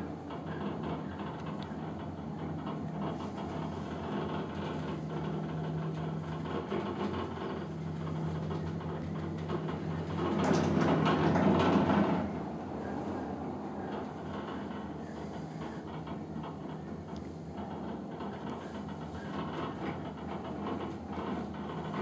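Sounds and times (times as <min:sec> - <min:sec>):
cable car cabin humming: 0:00.0 - 0:22.0
rattling rumble over rollers: 0:00.0 - 0:22.0.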